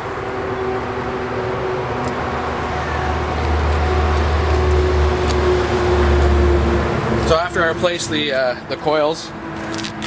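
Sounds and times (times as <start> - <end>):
noisy drone: 0.0 - 10.0.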